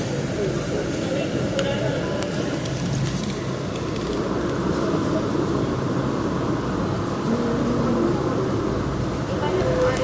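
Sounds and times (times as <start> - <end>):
electric train rumble from inside: 0.0 - 10.0.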